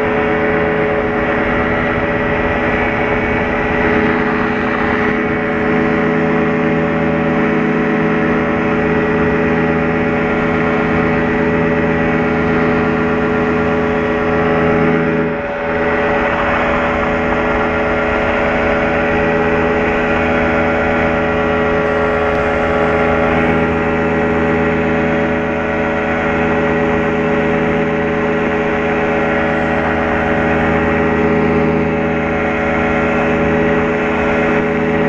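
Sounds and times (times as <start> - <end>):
small plane engine droning: 0.0 - 35.0.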